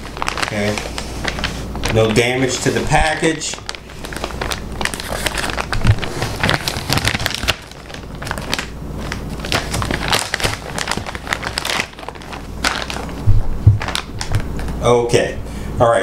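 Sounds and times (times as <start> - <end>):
plastic bag crinkling: 0.0 - 14.8.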